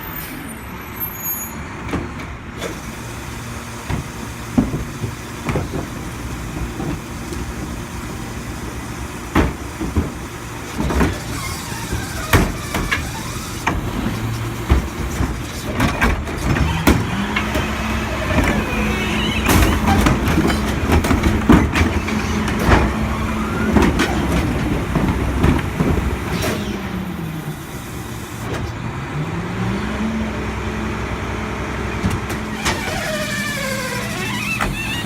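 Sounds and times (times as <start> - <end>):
garbage truck diesel engine revving: 1.6 - 35.0.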